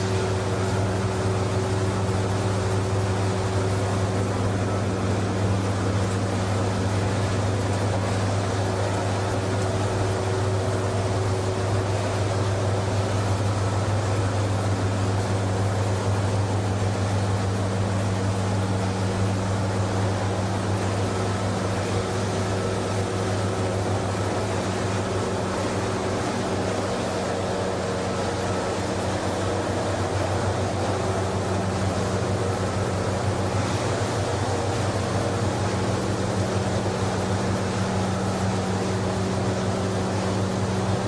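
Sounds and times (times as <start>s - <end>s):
mechanical machinery noise: 0.0s - 41.0s.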